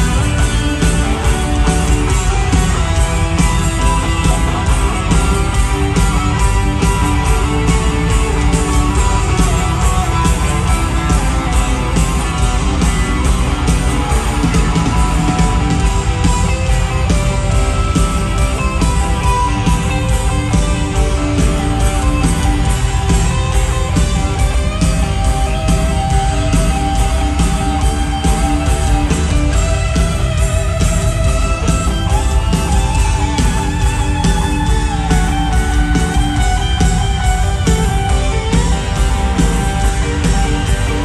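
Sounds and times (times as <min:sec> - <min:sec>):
drums keeping a steady beat: 0:00.0 - 0:41.0
electric guitars: 0:00.0 - 0:41.0.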